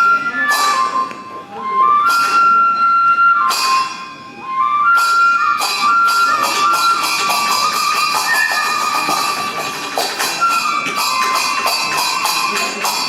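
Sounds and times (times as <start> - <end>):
sharp percussion strikes: 0.0 - 1.4, 2.0 - 13.0
bamboo flute: 0.0 - 13.0.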